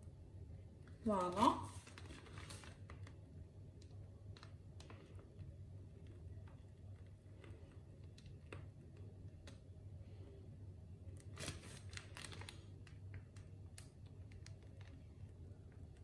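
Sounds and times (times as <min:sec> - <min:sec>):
low steady hum: 0:00.0 - 0:16.0
plastic piping bag crinkling: 0:00.8 - 0:10.2, 0:11.0 - 0:16.0.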